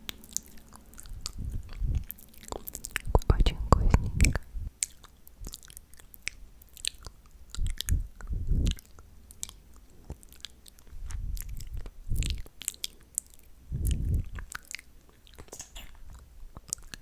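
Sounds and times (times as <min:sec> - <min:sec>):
wet lip and tongue clicks: 0:00.1 - 0:15.8.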